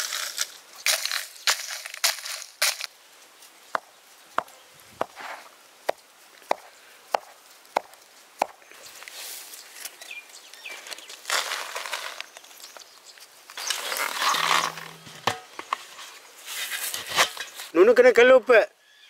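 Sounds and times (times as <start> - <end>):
rustling: 0.0 - 17.8.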